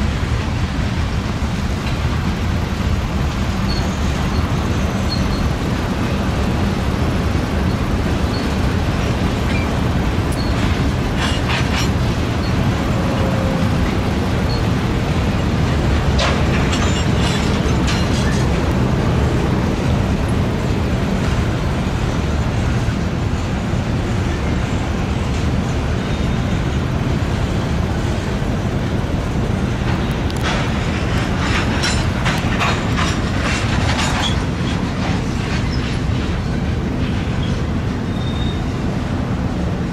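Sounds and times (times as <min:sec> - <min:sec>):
sharp clacking of rail cars: 0:00.0 - 0:39.9
train wheels rumbling on rail: 0:00.0 - 0:39.9.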